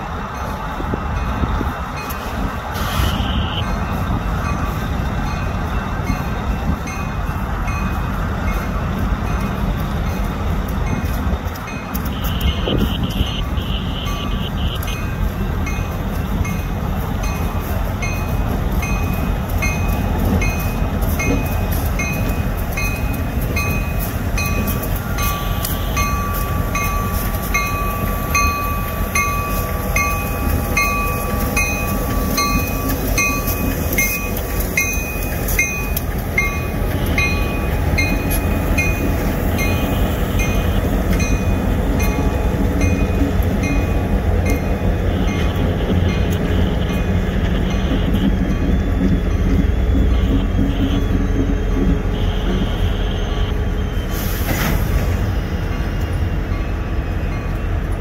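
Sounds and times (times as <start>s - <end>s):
crossing bell dinging: 0.0s - 54.1s, 55.2s - 58.0s
diesel locomotives rumbling past: 0.0s - 58.0s.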